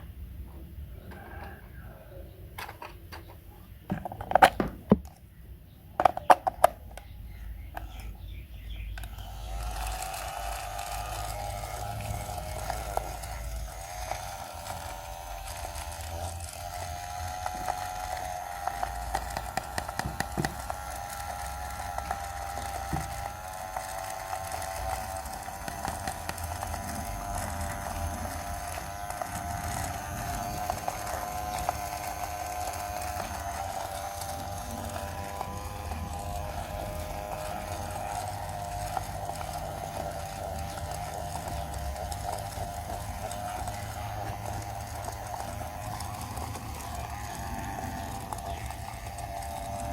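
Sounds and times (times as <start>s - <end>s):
small motor whining: 6.0s - 49.9s.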